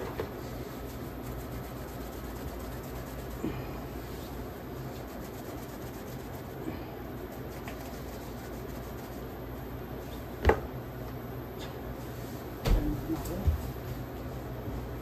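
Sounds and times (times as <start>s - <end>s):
induction cooktop hum: 0.0s - 15.0s.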